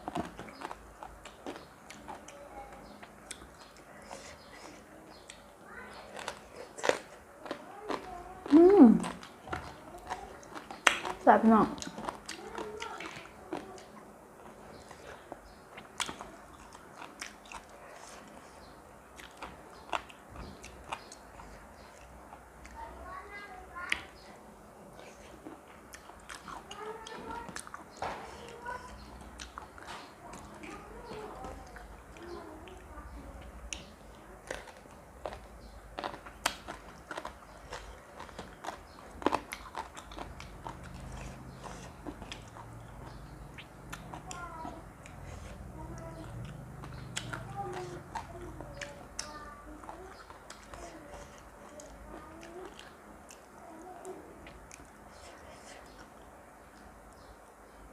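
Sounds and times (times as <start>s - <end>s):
person chewing crunchy food: 0.0s - 22.8s, 25.0s - 32.9s, 33.6s - 53.6s.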